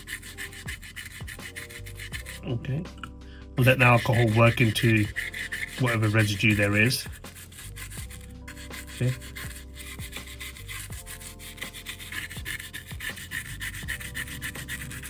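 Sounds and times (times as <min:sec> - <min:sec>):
stiff brush scrubbing circuit board: 0:00.0 - 0:02.7, 0:03.6 - 0:15.0.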